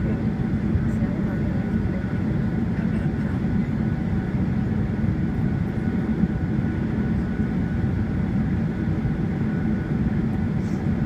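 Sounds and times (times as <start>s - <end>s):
jet engines idling rumble: 0.0s - 11.0s.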